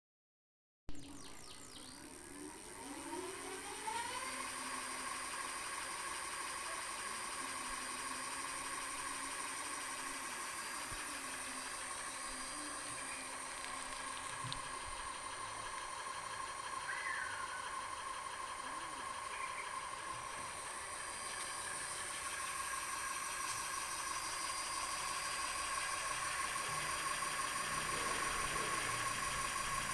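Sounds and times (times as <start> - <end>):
electric bike motor whining: 1.0 - 29.9.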